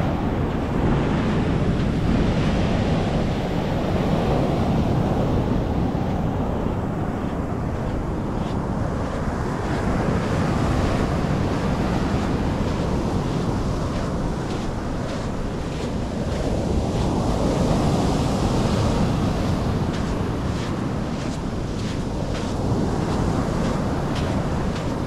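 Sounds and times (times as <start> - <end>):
sea waves breaking: 0.0 - 25.0
wind rumble on microphone: 0.0 - 25.0.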